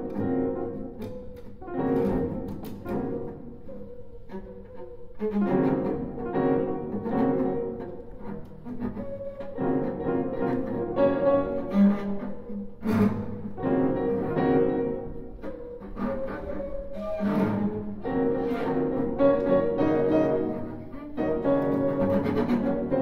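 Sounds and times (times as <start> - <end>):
cello bowed notes: 0.0 - 23.0
piano: 0.0 - 23.0.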